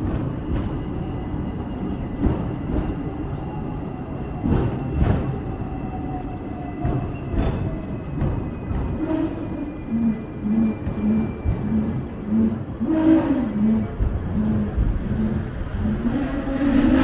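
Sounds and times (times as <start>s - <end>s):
tram rumble: 0.0s - 17.0s.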